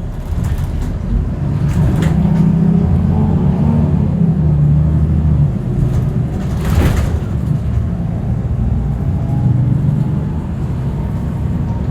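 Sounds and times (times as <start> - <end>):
vehicle engines rumbling: 0.0 - 11.9.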